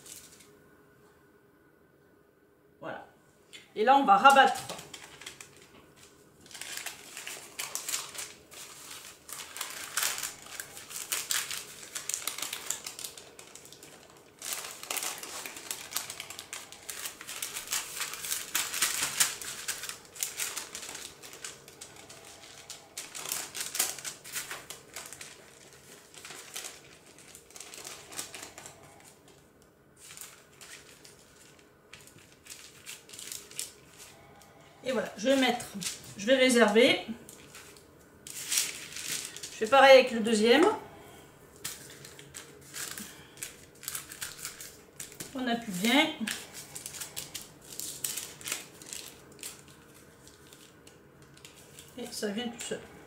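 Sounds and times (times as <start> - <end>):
paper crinkling and rustling: 0.0 - 0.5, 4.2 - 39.7, 41.5 - 52.8.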